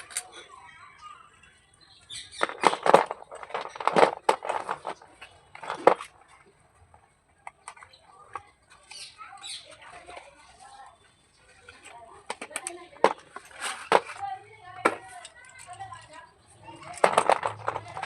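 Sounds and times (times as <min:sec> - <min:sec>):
pencils clattering: 0:00.0 - 0:18.0.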